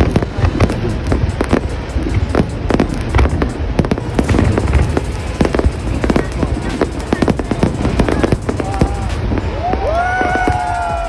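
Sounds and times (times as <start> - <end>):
dense low rumble: 0.0 - 11.0
fireworks bangs and crackles: 0.0 - 11.0.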